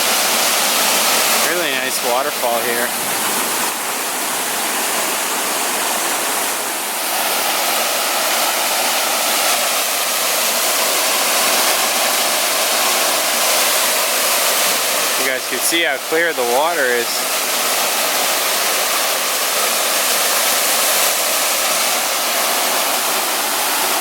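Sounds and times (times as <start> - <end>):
waterfall pouring: 0.0 - 24.0.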